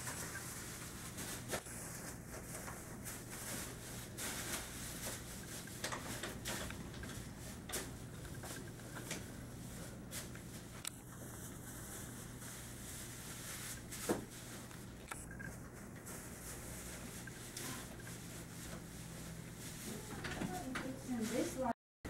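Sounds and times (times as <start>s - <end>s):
low hum and hiss: 0.0s - 21.7s.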